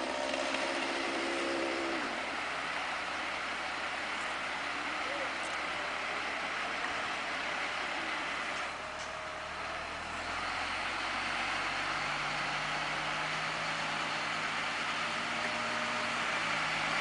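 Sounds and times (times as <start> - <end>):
crane engine running under load: 0.0 - 17.0.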